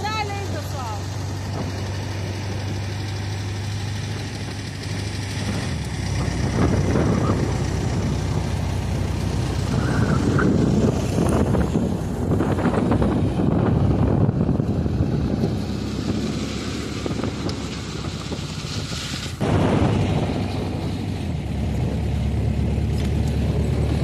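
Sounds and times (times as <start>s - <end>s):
off-road buggy engine running: 0.0s - 24.0s.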